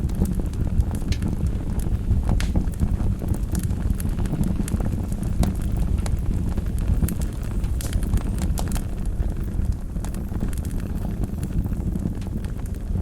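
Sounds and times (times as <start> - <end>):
fire crackles and pops: 0.0 - 13.0
low rumble of flames: 0.0 - 13.0.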